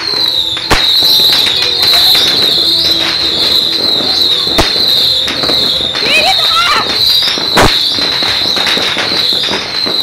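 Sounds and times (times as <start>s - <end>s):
fireworks cracking and popping: 0.0s - 10.0s
sharp firework bangs: 0.0s - 10.0s
wavering high-pitched tone: 0.0s - 10.0s.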